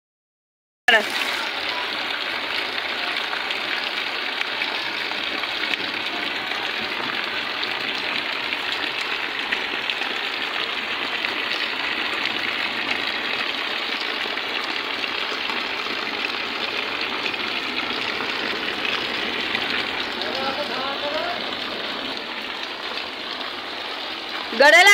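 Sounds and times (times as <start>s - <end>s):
heavy rain splashing into puddles: 0.9s - 24.9s.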